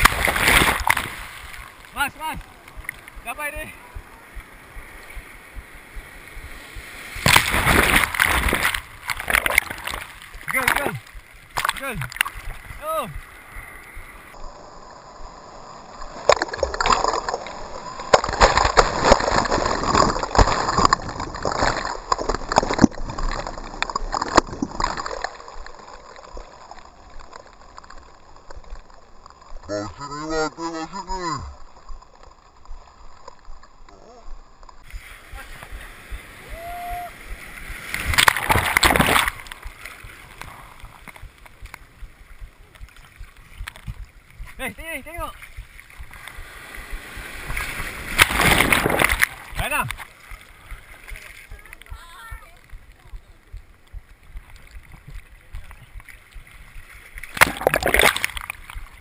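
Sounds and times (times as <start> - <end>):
water sloshing: 0.0 - 29.7, 30.8 - 59.0
surf splashing foam: 0.0 - 34.2, 34.8 - 59.0.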